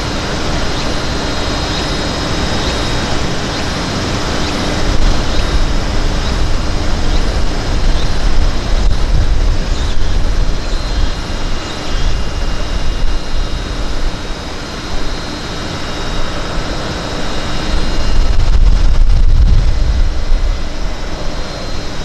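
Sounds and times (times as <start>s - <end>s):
wind buffeting microphone: 0.0s - 15.3s, 16.4s - 22.0s.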